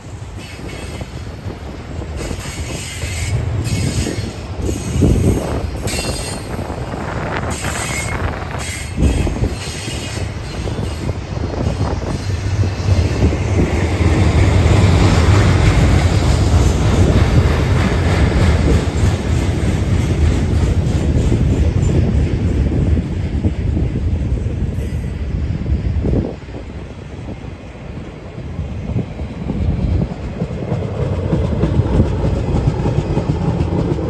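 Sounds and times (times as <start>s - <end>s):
train clanks: 0.0s - 34.0s
train wheels rumbling on rails: 0.0s - 34.0s.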